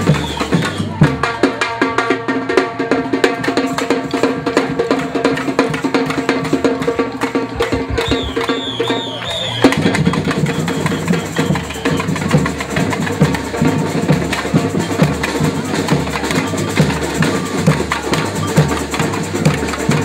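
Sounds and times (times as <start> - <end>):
drum band playing: 0.0 - 20.0.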